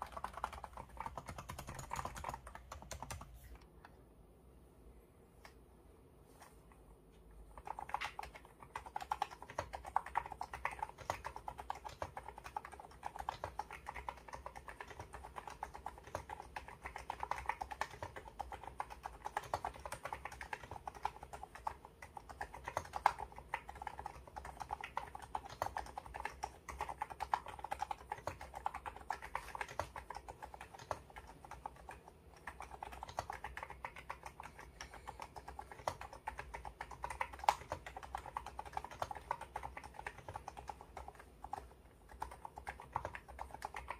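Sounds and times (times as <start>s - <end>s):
keyboard typing: 0.0s - 3.7s, 7.3s - 43.9s.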